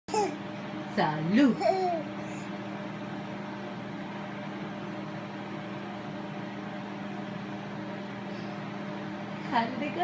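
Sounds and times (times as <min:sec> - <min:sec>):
steady low hum: 0:00.1 - 0:10.0.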